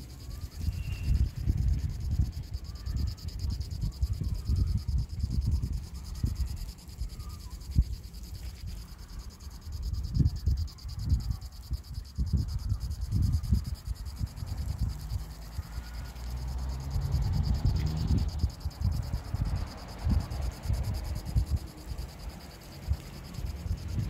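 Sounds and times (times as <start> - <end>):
high insect trill: 0.0 - 24.0
wind buffeting microphone: 0.0 - 24.0.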